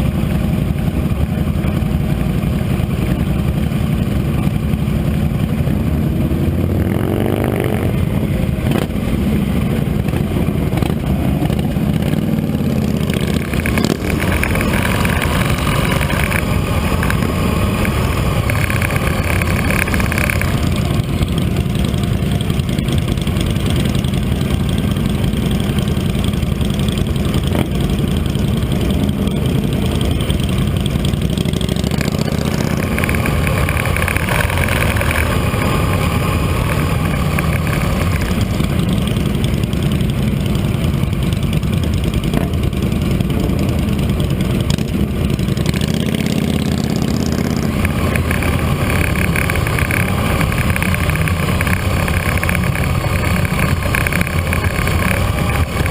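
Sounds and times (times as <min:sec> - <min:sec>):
motorcycle engine rumbling: 0:00.0 - 0:55.9.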